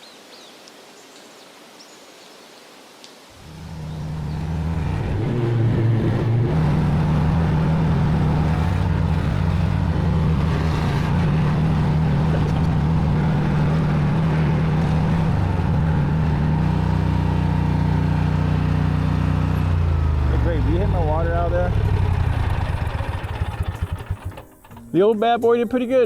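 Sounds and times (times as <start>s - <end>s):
mower engine running: 3.4s - 24.8s.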